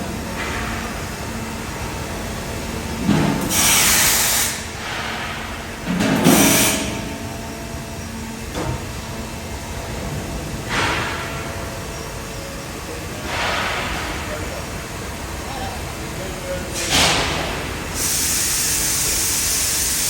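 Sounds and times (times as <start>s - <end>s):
factory machinery humming: 0.0s - 20.0s.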